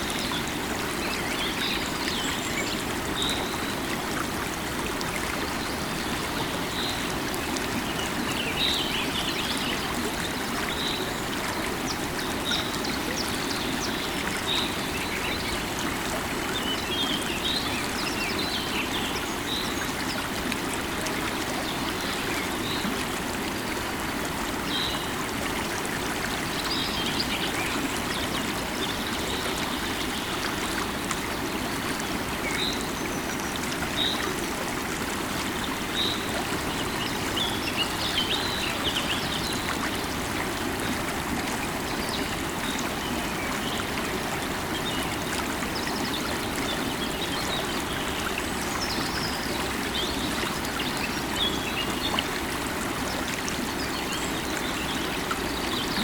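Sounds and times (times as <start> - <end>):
river water over rocks: 0.0 - 56.0.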